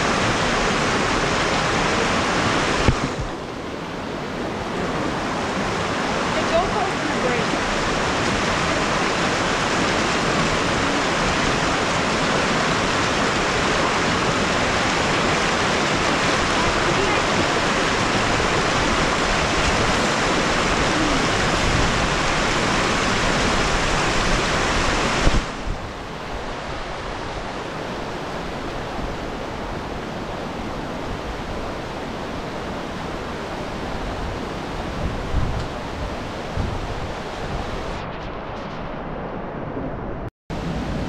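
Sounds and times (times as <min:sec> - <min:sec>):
creek rushing over rocks: 0:00.0 - 0:38.2.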